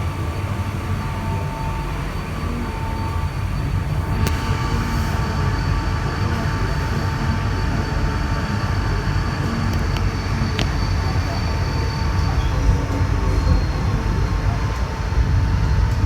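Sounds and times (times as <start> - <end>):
train rumble and whine: 0.0 - 16.0.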